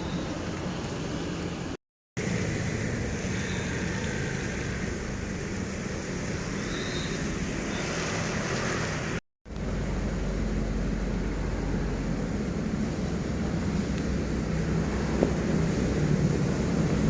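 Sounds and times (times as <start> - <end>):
heavy rain on a vehicle roof: 0.0 - 7.6, 8.4 - 17.0
gusting wind: 0.0 - 17.0.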